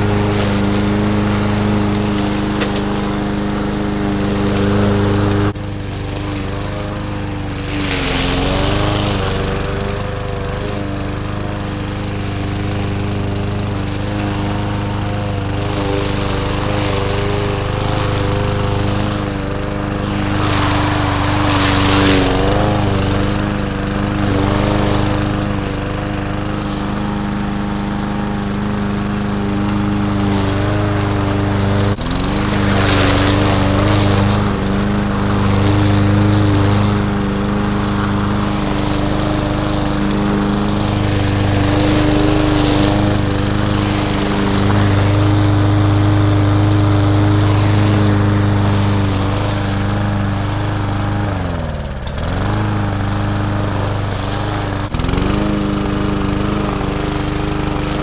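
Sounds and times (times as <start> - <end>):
lawnmower engine running: 0.0 - 58.0.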